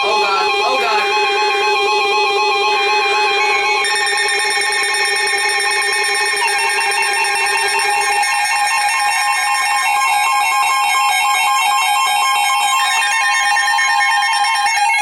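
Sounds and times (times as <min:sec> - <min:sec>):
pulsing alarm beeps: 0:00.0 - 0:15.0.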